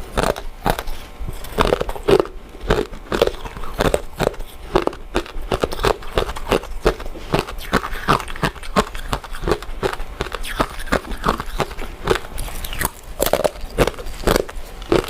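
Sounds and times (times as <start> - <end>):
person chewing: 0.0 - 15.0
wet mouth noises: 0.2 - 15.0.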